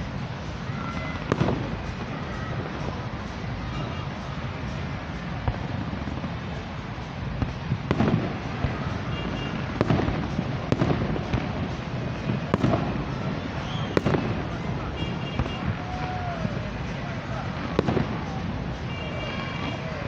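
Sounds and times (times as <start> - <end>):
fireworks rumbling and crackling: 0.0 - 20.0
sharp fireworks bangs: 0.0 - 20.0.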